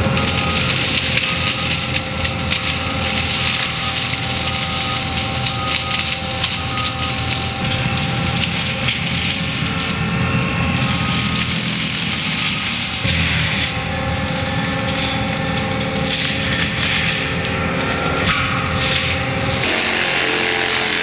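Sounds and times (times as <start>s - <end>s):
engine rumble: 0.0s - 21.0s
machine whine: 0.0s - 21.0s
mulcher grinding wood: 0.0s - 21.0s.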